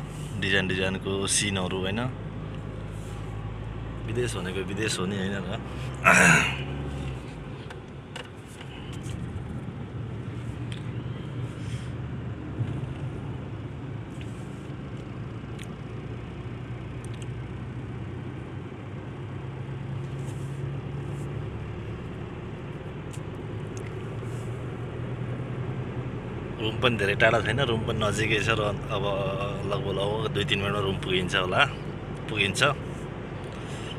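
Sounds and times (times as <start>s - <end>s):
vehicle engine and tyre hum: 0.0s - 33.9s.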